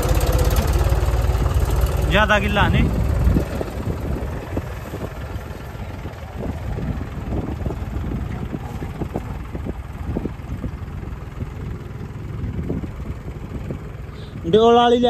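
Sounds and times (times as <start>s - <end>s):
tractor engine running: 0.0s - 15.0s
wind rumbling on microphone: 0.6s - 14.2s.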